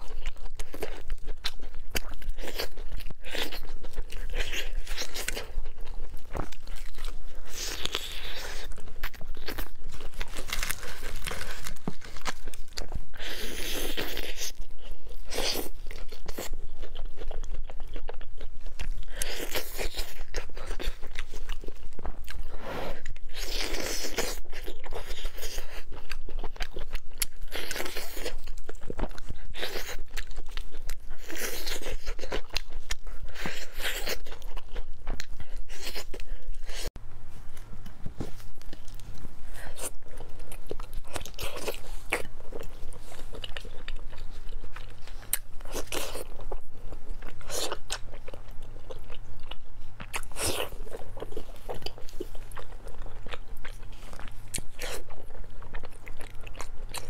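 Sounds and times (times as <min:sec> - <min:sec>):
crunching fried chicken bites: 0:00.0 - 0:36.9, 0:39.6 - 0:57.0.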